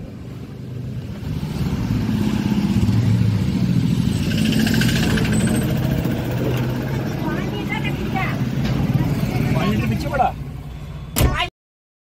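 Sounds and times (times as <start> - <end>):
vehicle engine humming: 0.0 - 11.2.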